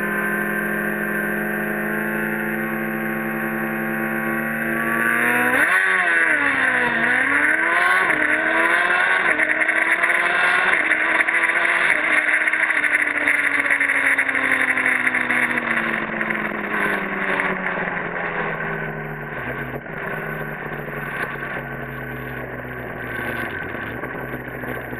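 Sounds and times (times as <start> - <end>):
motorcycle accelerating hard: 0.0 - 24.9.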